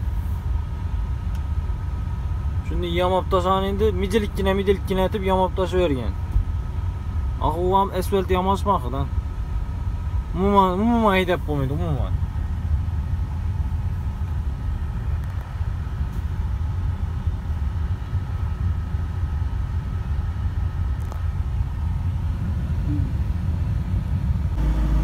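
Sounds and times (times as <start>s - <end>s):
truck engine and tyres rumbling: 0.0s - 25.0s.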